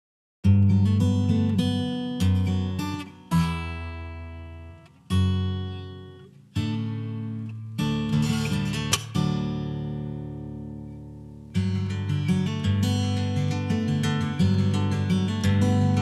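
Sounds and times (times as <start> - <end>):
fingerstyle acoustic guitar chords: 0.4 - 16.0.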